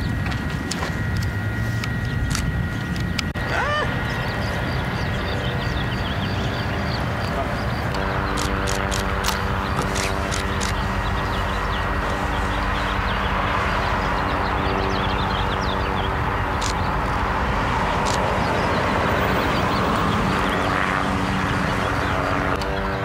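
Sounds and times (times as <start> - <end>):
low hum: 0.0 - 23.0
road traffic rumble: 0.0 - 23.0.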